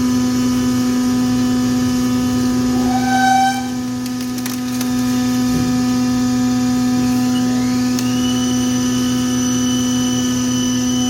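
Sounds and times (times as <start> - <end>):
lathe humming and whining: 0.0 - 11.0.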